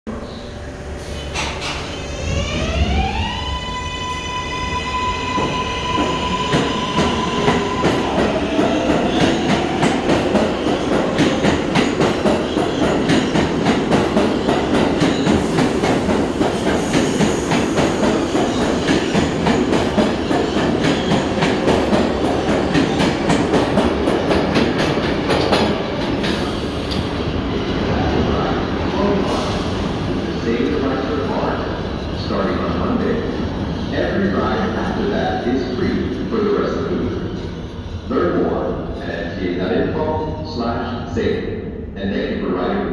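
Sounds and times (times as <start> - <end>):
subway train electric whine: 0.1 - 42.4.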